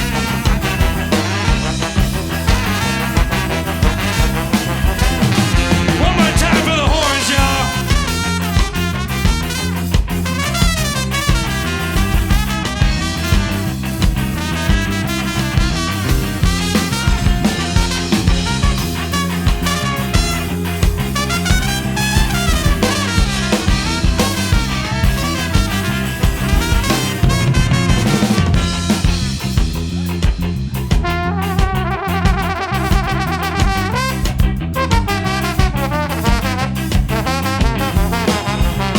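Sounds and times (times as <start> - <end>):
horn holding a long note: 0.0 - 29.2, 31.2 - 38.9
live ska band playing: 0.0 - 38.9.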